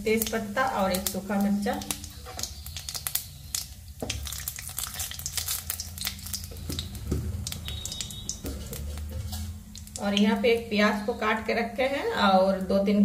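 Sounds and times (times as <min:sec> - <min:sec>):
seeds crackling and popping: 0:00.0 - 0:11.1
spices sizzling in oil: 0:00.0 - 0:12.9.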